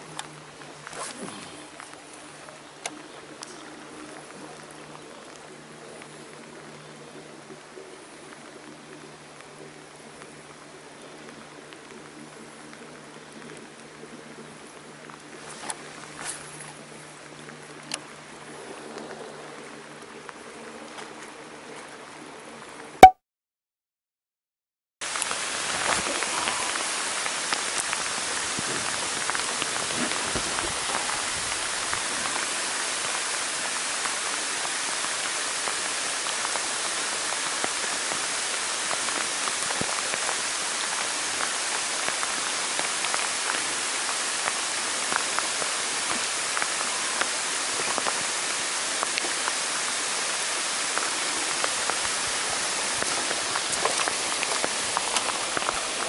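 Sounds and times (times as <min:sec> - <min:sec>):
rain falling on water: 0:00.0 - 0:23.1, 0:25.0 - 0:56.0.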